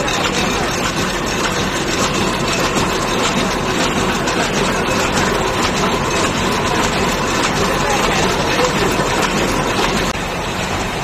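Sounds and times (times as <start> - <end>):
machine clattering rapid ticks: 0.0 - 10.2
constant machine hum: 0.0 - 11.0.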